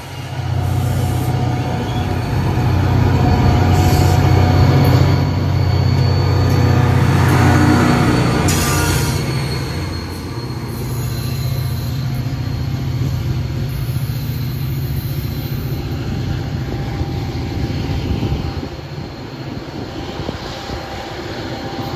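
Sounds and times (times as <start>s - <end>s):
locomotive engine drone: 0.0s - 21.9s.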